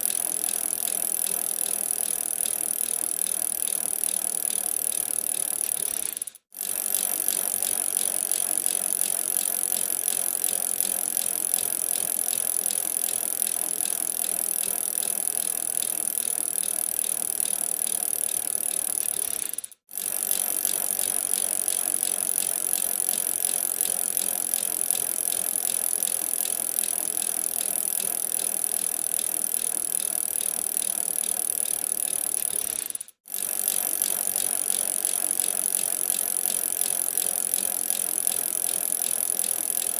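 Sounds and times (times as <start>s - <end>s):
bicycle ticking and rattling: 0.0s - 39.9s.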